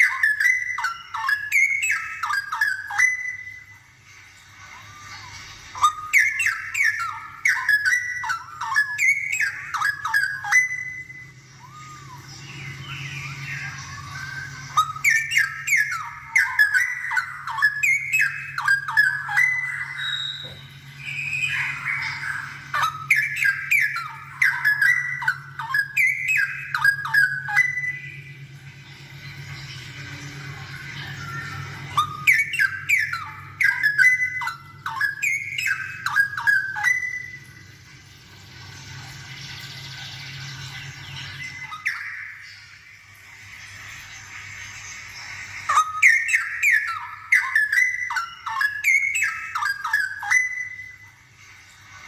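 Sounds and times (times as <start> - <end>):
bird whistling song: 0.0 - 52.0
low steady hum: 0.0 - 52.0.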